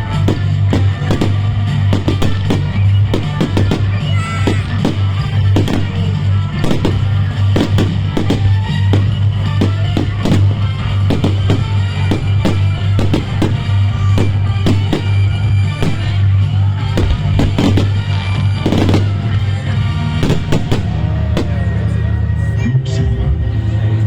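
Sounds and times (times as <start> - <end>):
fireworks bangs and crackles: 0.0 - 22.6
loud music over loudspeakers: 0.0 - 24.0.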